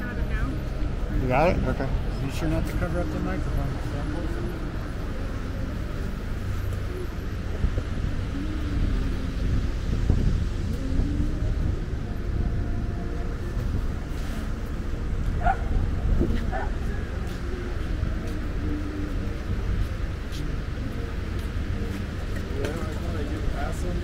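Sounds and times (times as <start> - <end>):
low rumble of traffic: 0.0 - 24.0.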